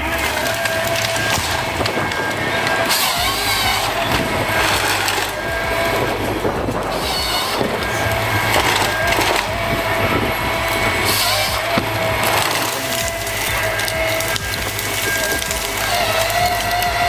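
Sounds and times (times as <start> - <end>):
forestry machine engine running: 0.0 - 17.0
wood cracking and splintering: 0.0 - 17.0.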